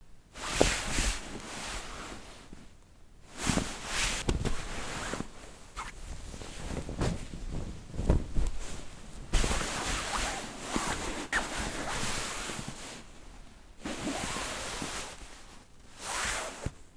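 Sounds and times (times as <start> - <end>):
bed sheet shaken and rustling: 0.3 - 16.9.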